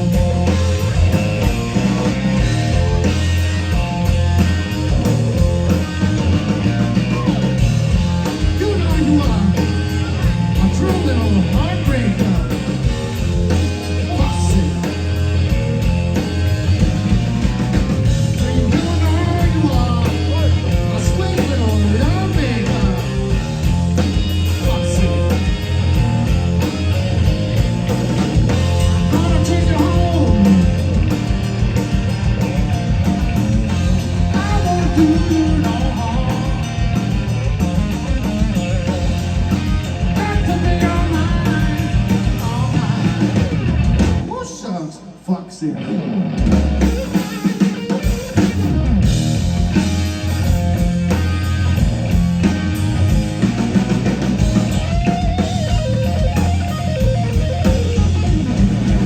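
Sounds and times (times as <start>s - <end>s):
electric guitar bending notes: 0.0s - 44.3s, 45.8s - 59.0s
rock band playing: 0.0s - 59.0s.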